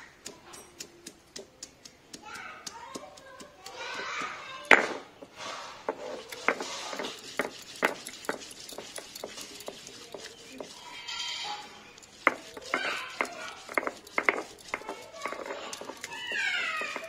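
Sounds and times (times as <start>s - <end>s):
stone scraping: 3.2s - 17.0s.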